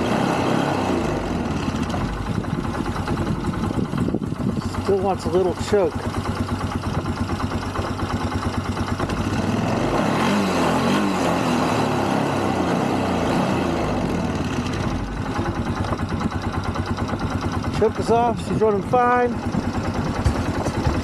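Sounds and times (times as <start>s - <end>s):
atv engine idling: 0.0s - 21.0s.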